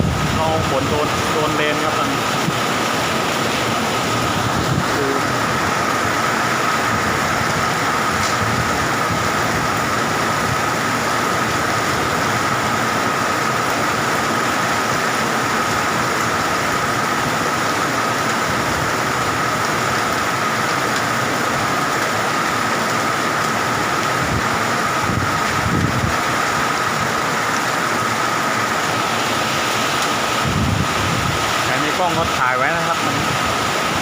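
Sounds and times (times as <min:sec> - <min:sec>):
heavy rain: 0:00.0 - 0:34.0
strong gusting wind: 0:00.0 - 0:34.0.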